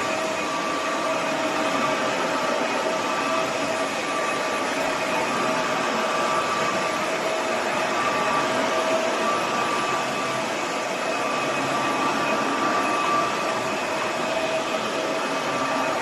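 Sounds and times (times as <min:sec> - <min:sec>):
vacuum mop running: 0:00.0 - 0:16.0.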